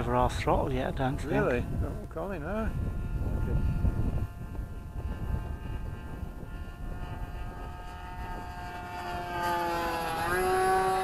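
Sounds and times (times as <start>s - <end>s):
model plane engine drone: 0.0s - 11.0s
wind rumble on microphone: 0.0s - 11.0s.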